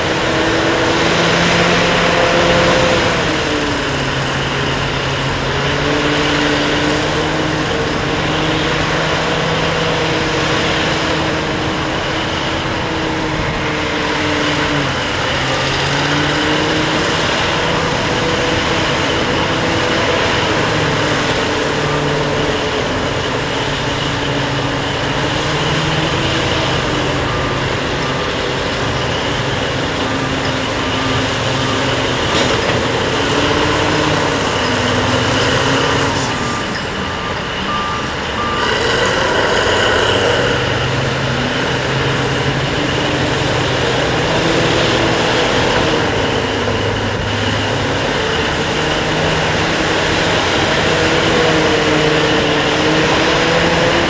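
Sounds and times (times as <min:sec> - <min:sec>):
heavy machinery running: 0:00.0 - 0:54.0
machine whines: 0:00.0 - 0:54.0
backup alarm beeping: 0:00.5 - 0:48.0.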